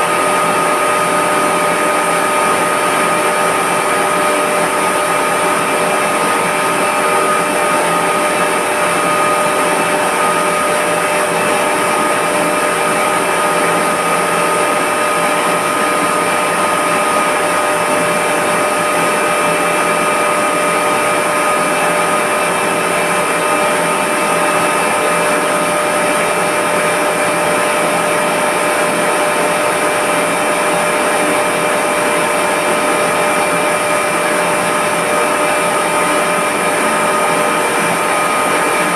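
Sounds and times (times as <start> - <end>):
electric motor and pump whining: 0.0 - 38.9.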